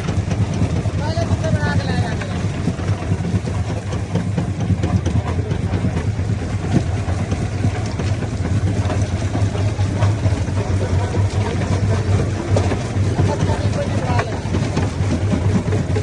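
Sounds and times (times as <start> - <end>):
crusher low drone: 0.0 - 16.0.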